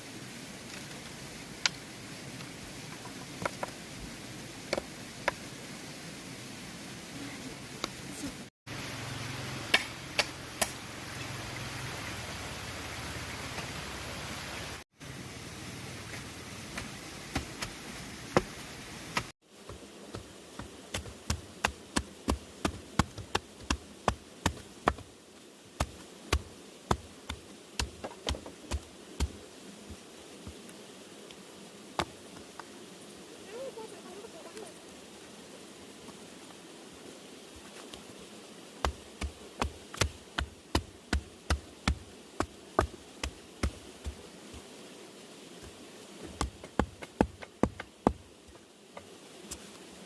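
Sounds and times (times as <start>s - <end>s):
insect buzz: 0.0s - 50.0s.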